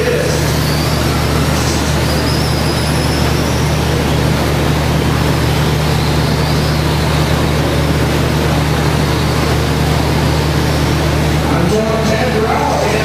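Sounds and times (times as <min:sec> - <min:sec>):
high motor whine: 0:00.0 - 0:13.0
low hum from hall: 0:00.0 - 0:13.0.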